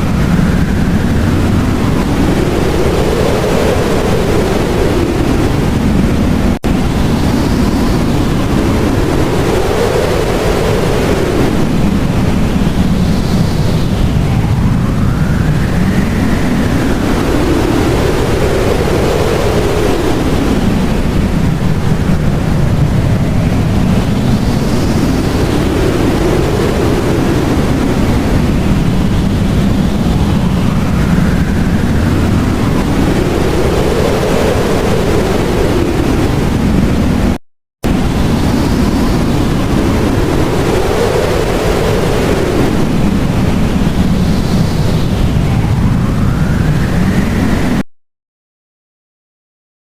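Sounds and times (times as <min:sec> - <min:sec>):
blizzard wind whistling: 0:00.0 - 0:47.8.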